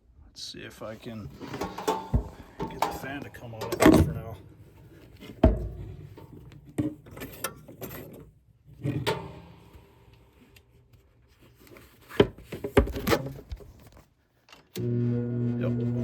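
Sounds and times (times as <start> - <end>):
handling clicks and scraping: 1.1 - 14.7.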